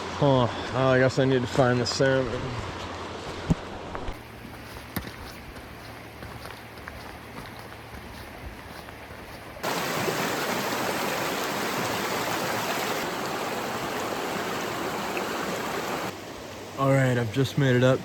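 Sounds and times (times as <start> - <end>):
stream water rushing: 2.6 - 18.0.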